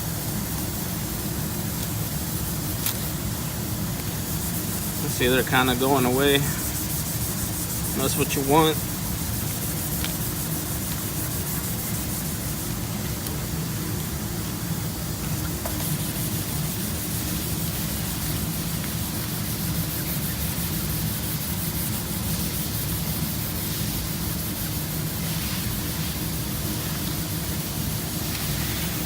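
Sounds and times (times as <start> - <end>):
low mechanical hum: 0.0 - 29.0
sanding plastic: 0.0 - 29.0.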